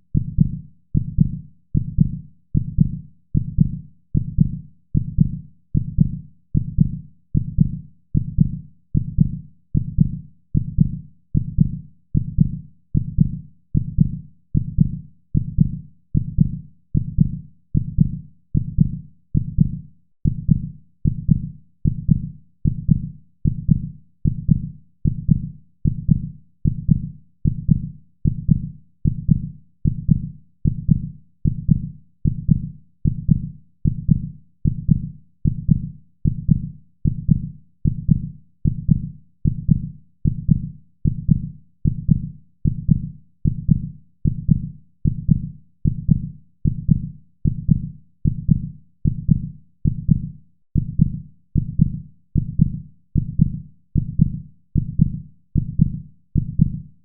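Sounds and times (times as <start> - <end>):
heartbeat: 0.0 - 56.9.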